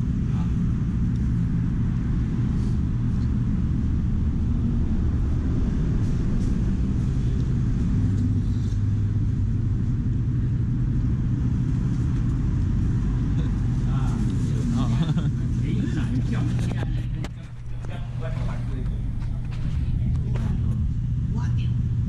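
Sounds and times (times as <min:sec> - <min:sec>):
engine hum: 0:00.0 - 0:22.0
low rumble of street traffic: 0:00.0 - 0:22.0.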